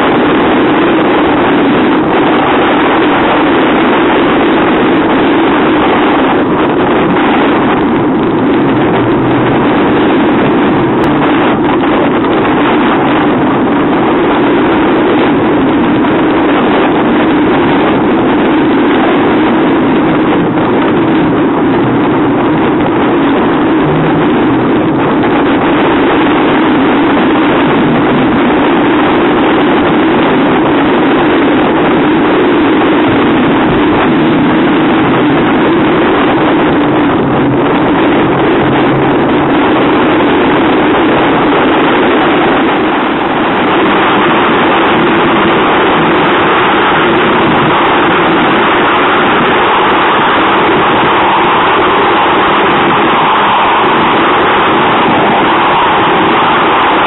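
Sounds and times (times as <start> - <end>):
outboard engines running hard: 0.0 - 57.0
rough sea water noise: 0.0 - 57.0
wind rushing over microphone: 0.0 - 57.0.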